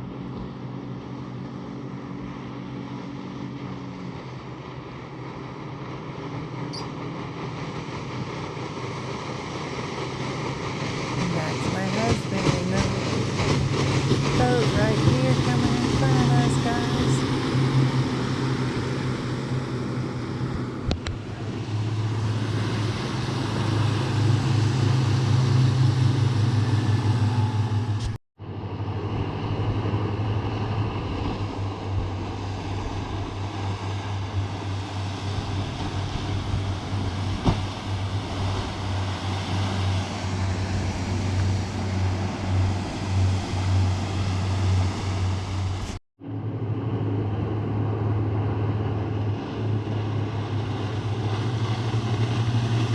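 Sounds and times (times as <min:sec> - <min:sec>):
outboard motor humming: 0:00.0 - 0:52.9
wind and water rushing: 0:00.0 - 0:52.9.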